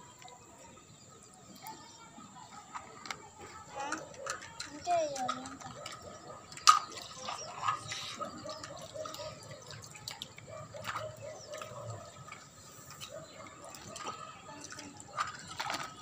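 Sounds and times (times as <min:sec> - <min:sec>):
plastic toys clicking and tapping: 0:02.5 - 0:16.0.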